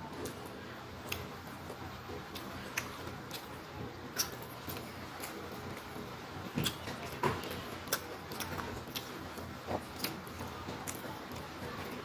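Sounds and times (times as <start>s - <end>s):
sharp clicks of eating rice: 0.2s - 12.0s.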